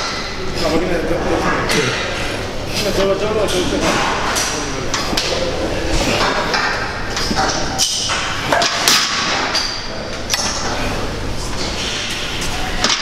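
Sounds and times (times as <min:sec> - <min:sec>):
busy gym background: 0:00.0 - 0:13.0.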